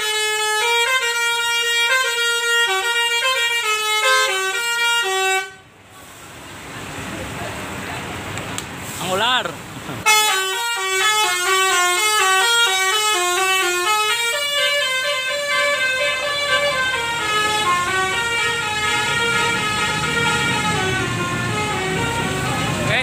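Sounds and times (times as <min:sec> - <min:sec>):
bus horn playing a fast tune: 0:00.0 - 0:05.7, 0:10.0 - 0:22.9.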